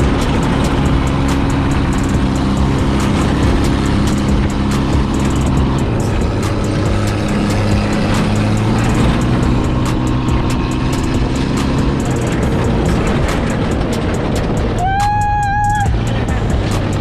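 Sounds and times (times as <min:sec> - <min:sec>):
buggy engine droning: 0:00.0 - 0:17.0.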